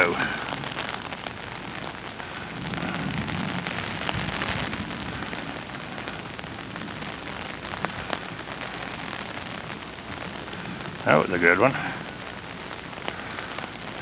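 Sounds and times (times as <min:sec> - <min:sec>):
rumble of thunder: 0:00.0 - 0:12.1
heavy rain falling: 0:00.0 - 0:14.0.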